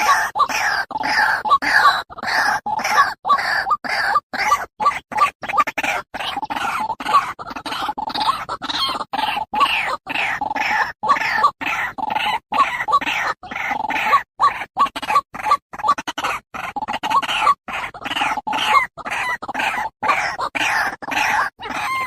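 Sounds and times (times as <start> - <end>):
animal cries: 0.0 - 22.0.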